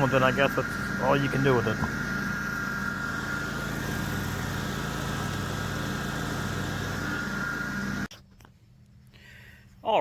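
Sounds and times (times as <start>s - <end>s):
high whine: 0.0s - 8.1s
lawn tractor engine droning: 0.0s - 9.8s.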